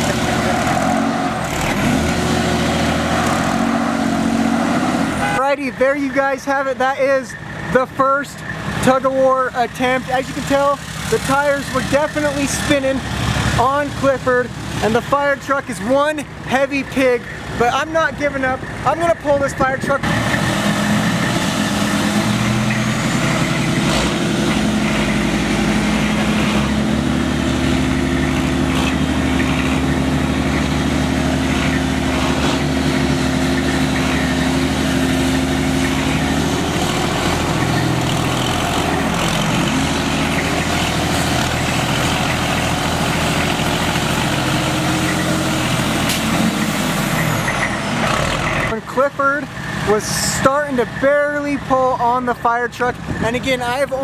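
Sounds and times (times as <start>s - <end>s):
diesel truck engine revving under load: 0.0s - 5.9s, 8.4s - 52.2s.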